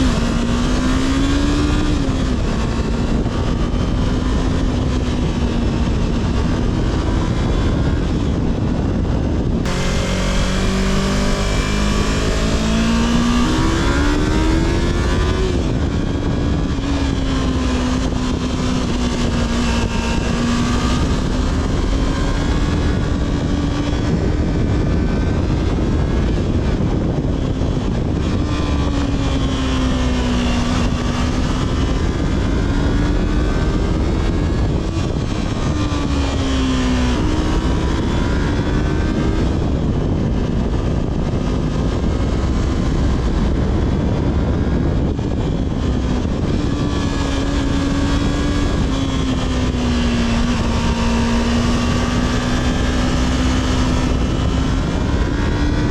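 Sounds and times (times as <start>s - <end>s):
heavy wind rush: 0.0s - 55.9s
motorcycle engine at riding revs: 0.0s - 55.9s.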